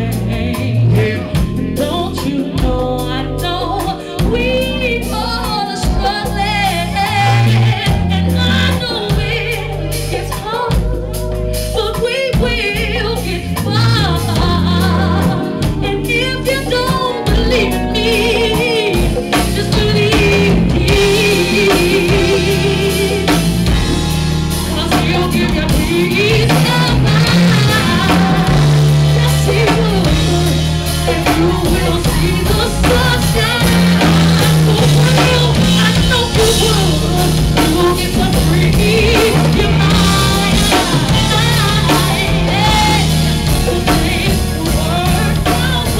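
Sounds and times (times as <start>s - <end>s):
live band playing: 0.0s - 45.9s
person singing: 0.0s - 45.9s.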